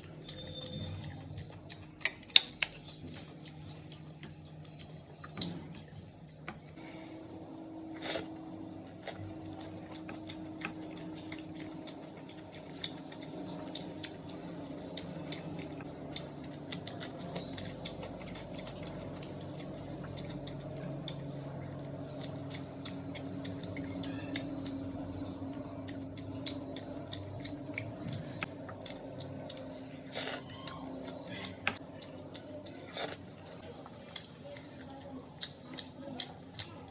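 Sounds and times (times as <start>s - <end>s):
chewing sounds: 0.0s - 6.8s, 7.8s - 36.9s
steady low hum: 0.0s - 36.9s.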